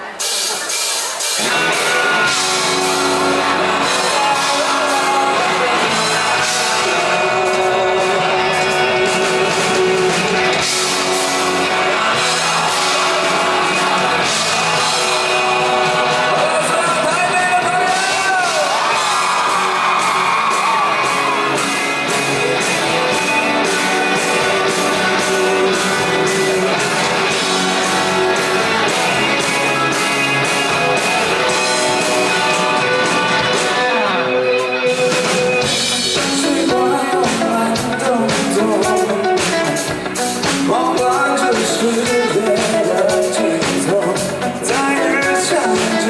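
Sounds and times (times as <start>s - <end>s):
rock band playing live: 0.0s - 46.0s
person singing: 1.4s - 46.0s.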